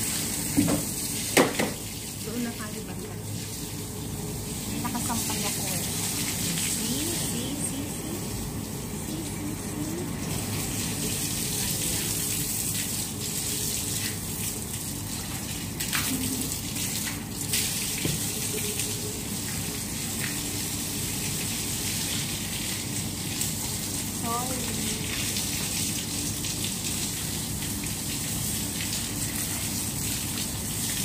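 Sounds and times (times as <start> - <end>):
water running: 0.0 - 31.0.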